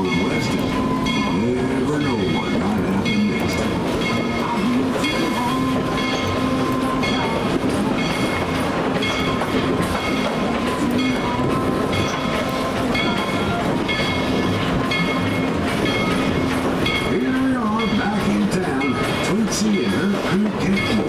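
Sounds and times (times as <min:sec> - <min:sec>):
train rumble: 0:00.0 - 0:21.0
train wheels clicking on rail joints: 0:00.0 - 0:21.0.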